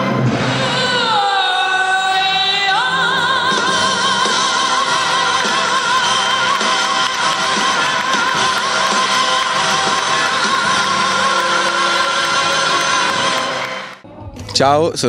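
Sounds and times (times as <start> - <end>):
voice singing with vibrato: 0.0 - 14.4.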